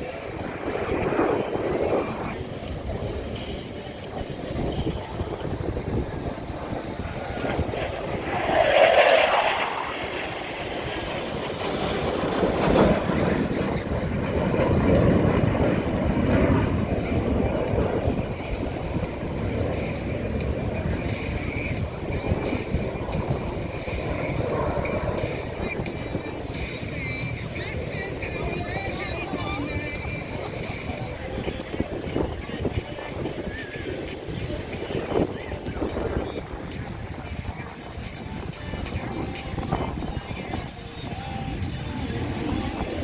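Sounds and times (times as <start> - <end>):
aircraft flying past: 0.0 - 43.0.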